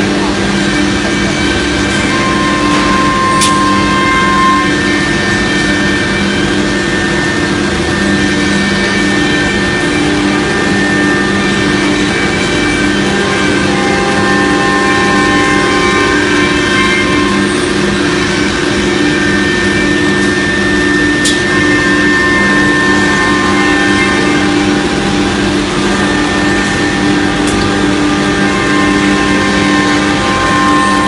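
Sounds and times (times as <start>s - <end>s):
cnc router spindle whine: 0.0s - 31.0s.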